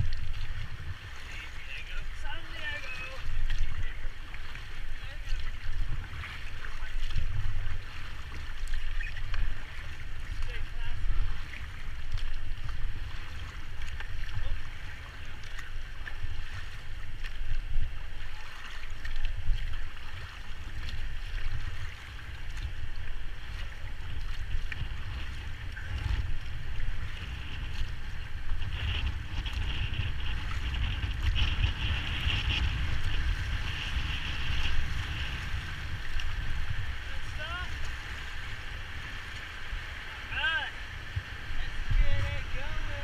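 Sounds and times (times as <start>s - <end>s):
river water rushing: 0.0s - 28.6s, 32.6s - 43.0s
wind buffeting microphone: 0.0s - 43.0s.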